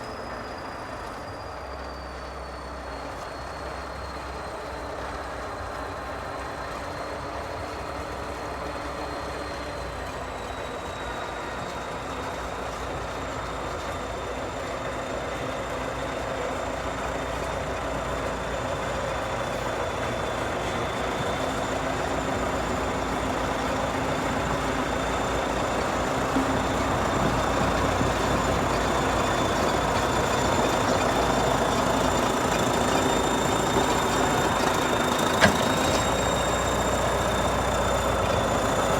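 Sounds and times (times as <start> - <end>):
diesel bulldozer engine under load: 0.0 - 38.9.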